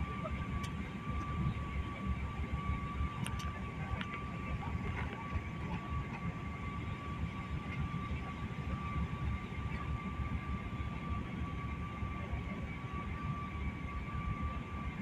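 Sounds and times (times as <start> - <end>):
engine and airflow rumble: 0.0 - 15.0.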